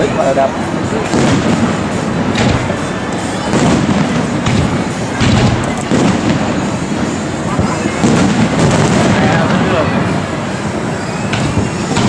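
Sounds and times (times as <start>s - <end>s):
fireworks exploding: 0.0s - 12.0s
sharp firework bangs: 0.7s - 12.0s.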